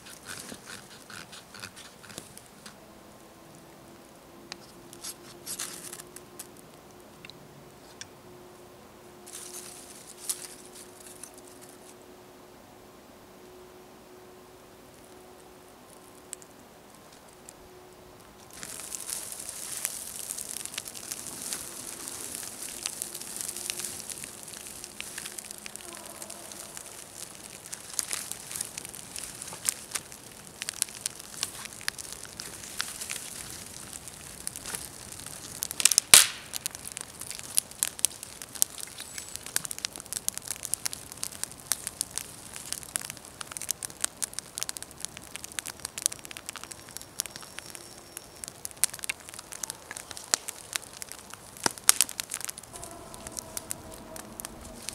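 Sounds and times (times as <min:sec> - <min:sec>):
campfire crackling and popping: 0:00.0 - 0:08.2, 0:09.2 - 0:12.0, 0:14.7 - 0:54.9.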